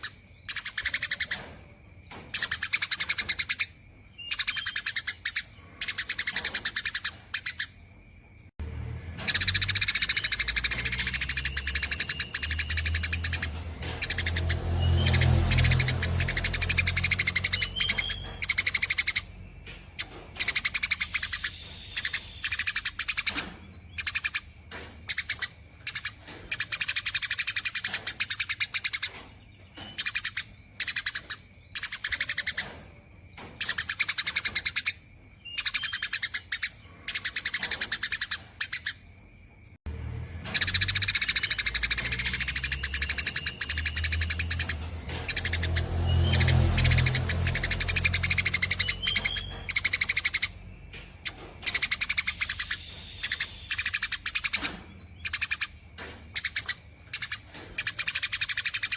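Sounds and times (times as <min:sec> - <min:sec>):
sparrow chirping: 0:00.0 - 0:08.6, 0:09.2 - 0:39.8, 0:40.4 - 0:58.9.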